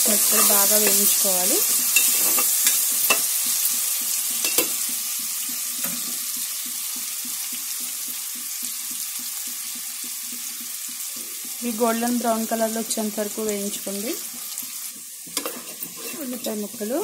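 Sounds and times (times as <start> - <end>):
onions frying in hot oil: 0.0 - 17.0.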